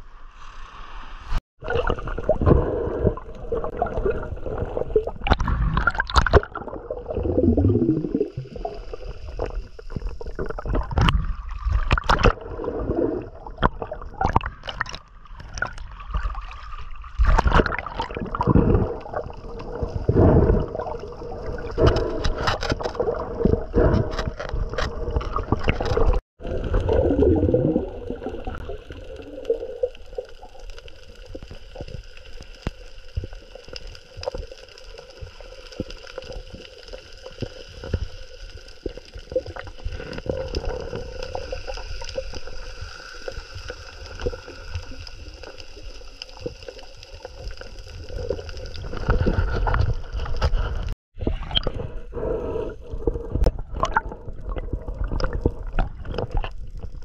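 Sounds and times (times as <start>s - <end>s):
underwater wash of water: 0.4s - 57.0s
water churning and sloshing: 0.6s - 57.0s
fine underwater crackling and clicking: 1.6s - 57.0s.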